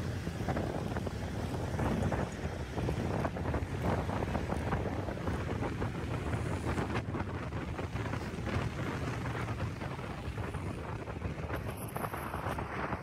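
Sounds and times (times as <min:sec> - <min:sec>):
moving vehicle: 0:00.0 - 0:13.0
road traffic rumble: 0:00.0 - 0:13.0
wind buffeting microphone: 0:00.0 - 0:13.0.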